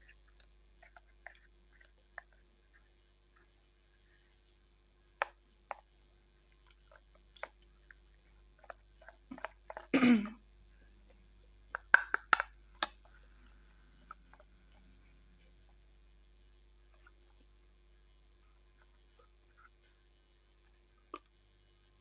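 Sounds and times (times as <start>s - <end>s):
crunchy snaps of chewing: 0.0s - 21.8s.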